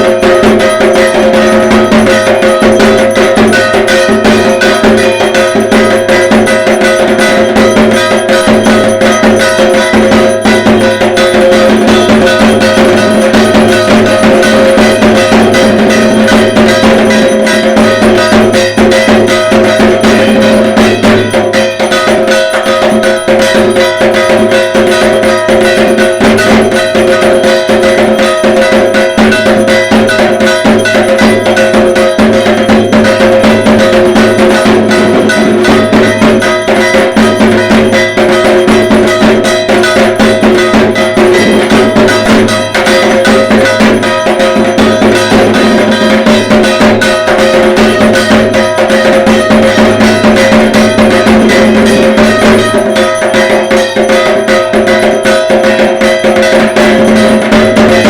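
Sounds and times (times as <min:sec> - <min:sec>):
barrel drum beating fast: 0:00.0 - 0:58.0
metallic percussion clanging: 0:00.0 - 0:58.0.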